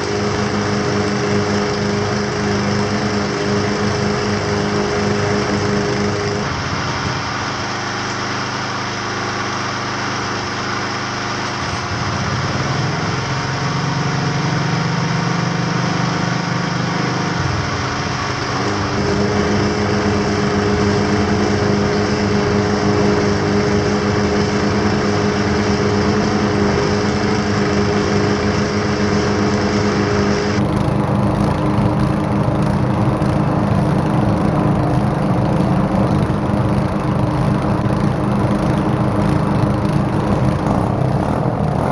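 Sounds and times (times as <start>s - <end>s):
many small engines running: 0.0s - 41.9s.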